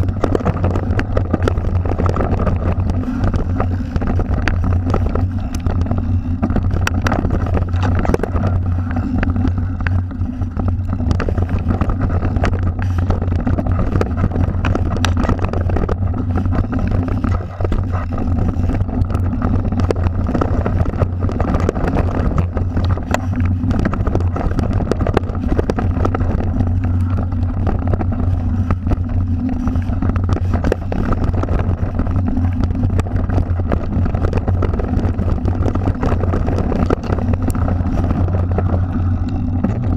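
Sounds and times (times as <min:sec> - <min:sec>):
bike rattling and clicking: 0:00.0 - 0:39.9
wind and rolling noise: 0:00.0 - 0:39.9.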